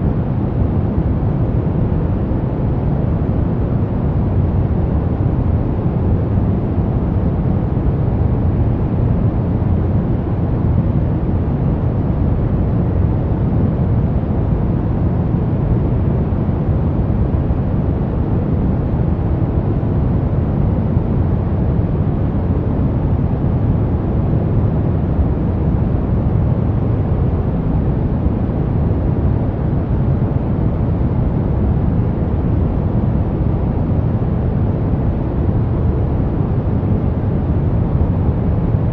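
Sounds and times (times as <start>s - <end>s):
brown noise rumbling hiss: 0.0s - 38.9s.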